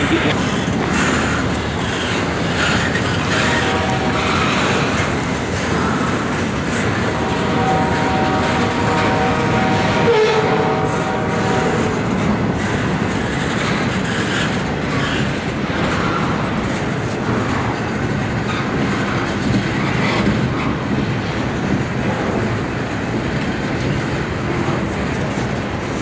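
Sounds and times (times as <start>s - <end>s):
freight train rumbling past: 0.0s - 26.0s
wheels clattering over rail joints: 0.0s - 26.0s.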